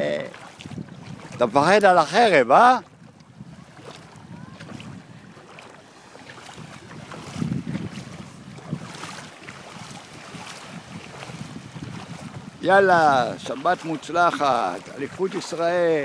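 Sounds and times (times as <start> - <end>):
small waves washing in: 0.0 - 16.0
wind on microphone: 0.0 - 16.0.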